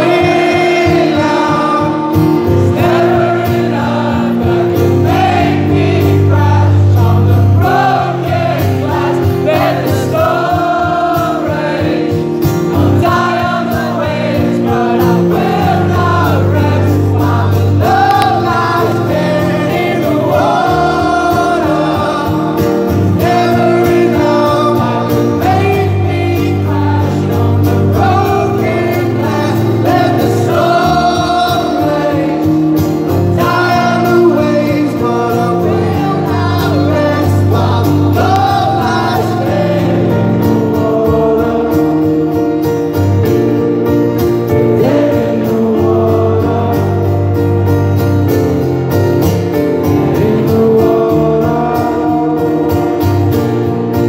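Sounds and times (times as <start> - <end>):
man singing: 0.0 - 42.6, 44.4 - 47.6, 49.7 - 54.0
acoustic guitar strumming: 0.0 - 54.0.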